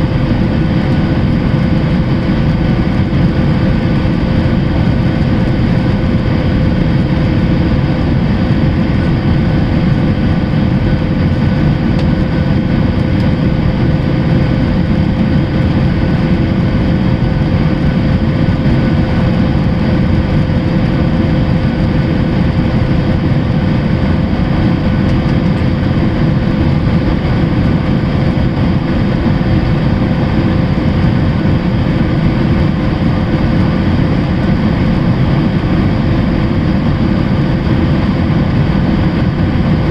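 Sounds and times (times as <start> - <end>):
jet engines and airflow: 0.0 - 39.9.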